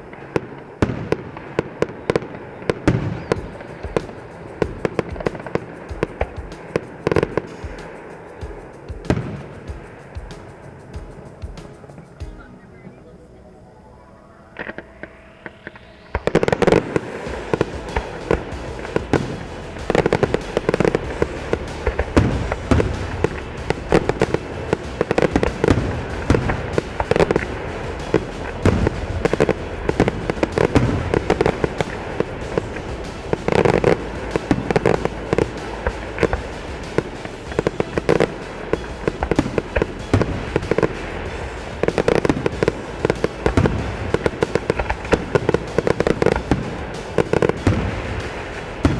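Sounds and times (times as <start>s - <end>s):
fireworks banging and crackling: 0.0s - 48.9s.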